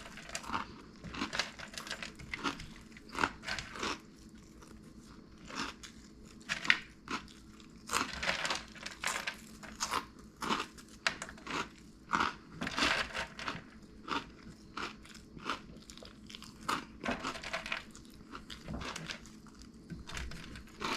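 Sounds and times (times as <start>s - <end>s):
crunchy snack being chewed: 0.0s - 20.9s.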